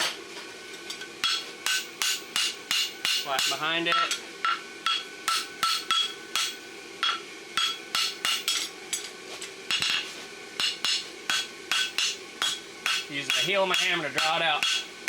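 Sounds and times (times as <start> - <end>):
hammer striking steel on anvil: 1.2 - 9.1, 9.7 - 15.0.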